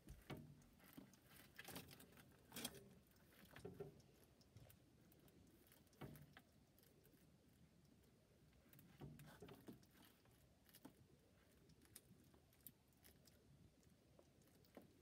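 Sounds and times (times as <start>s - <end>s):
lizard chewing food: 0.0s - 15.0s.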